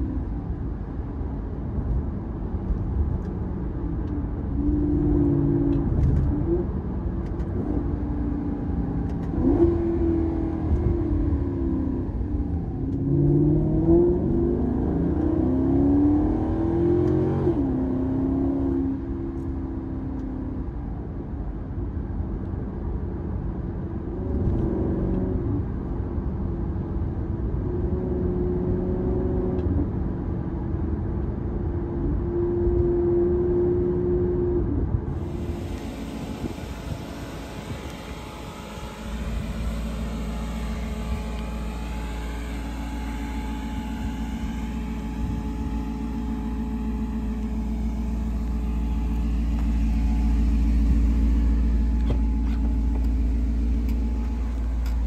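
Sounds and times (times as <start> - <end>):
car engine accelerating in cabin: 0.0 - 55.0
low engine rumble outside: 0.0 - 55.0.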